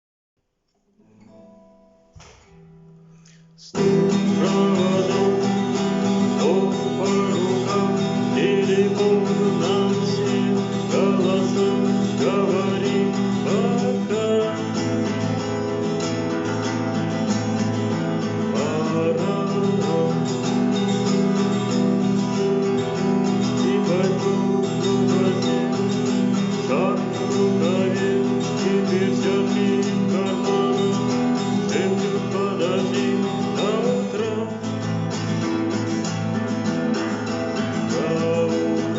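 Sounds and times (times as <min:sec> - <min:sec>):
acoustic guitar strumming: 0:01.0 - 0:38.9.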